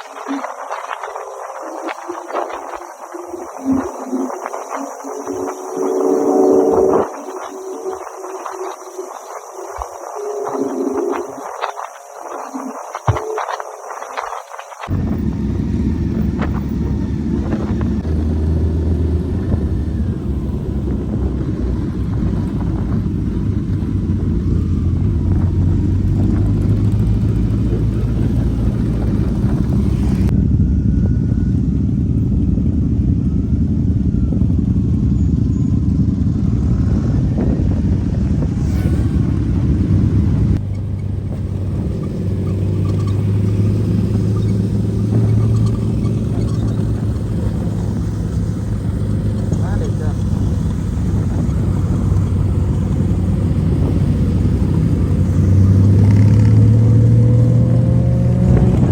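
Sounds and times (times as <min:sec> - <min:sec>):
motorcycle engines rumbling: 0:00.0 - 0:58.9.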